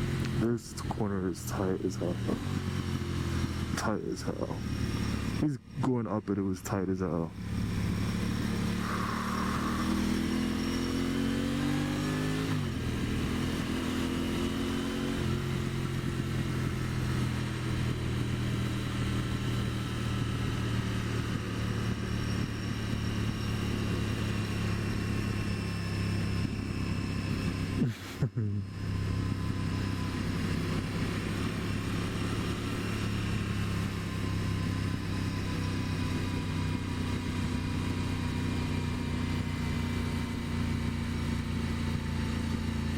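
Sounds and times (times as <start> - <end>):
motorcycle engine under way: 0.0 - 5.8, 7.3 - 42.9.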